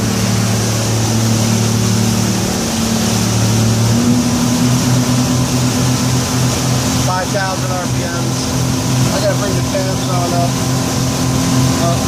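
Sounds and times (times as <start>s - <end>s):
outboard engines droning: 0.0s - 12.0s
rush of wind and water: 0.0s - 12.0s.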